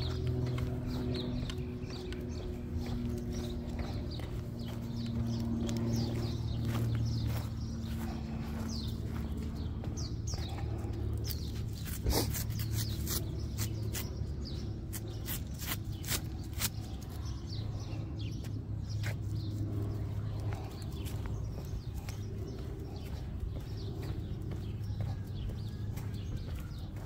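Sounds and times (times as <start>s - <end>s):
low hum: 0.0s - 27.0s
small birds chirping: 0.0s - 27.0s.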